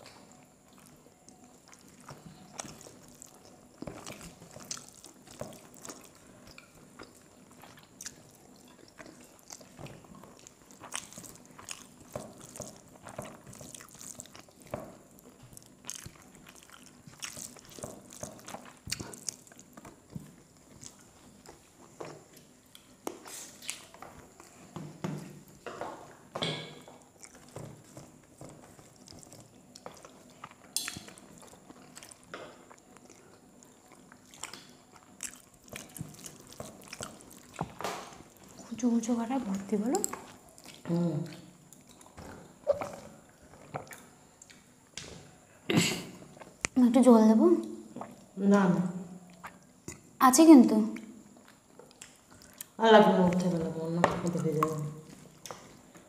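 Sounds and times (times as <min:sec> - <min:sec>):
chewing and mouth smacks: 0:00.0 - 0:24.7, 0:26.9 - 0:38.7, 0:39.9 - 0:45.2, 0:47.6 - 0:48.4, 0:49.2 - 0:50.2, 0:51.0 - 0:53.4, 0:54.4 - 0:56.0.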